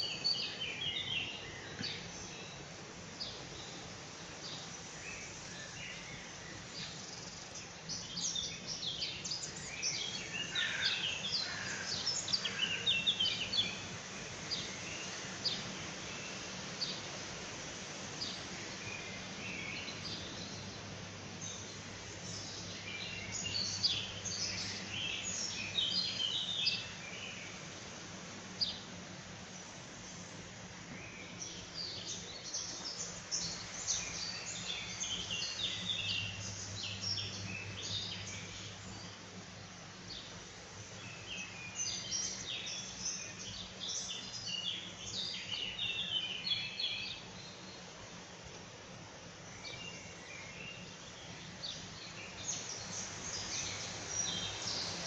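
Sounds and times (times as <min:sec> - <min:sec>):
songbirds chirping and singing: 0:00.0 - 0:55.0
steady low hum: 0:00.0 - 0:55.0.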